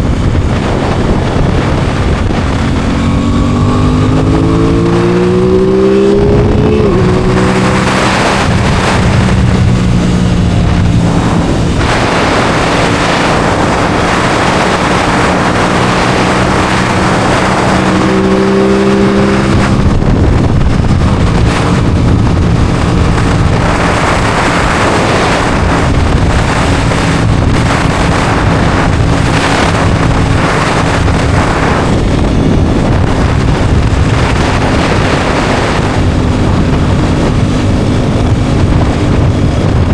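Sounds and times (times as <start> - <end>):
motorcycle engine running: 0.0 - 39.9
wind noise rushing: 0.0 - 39.9.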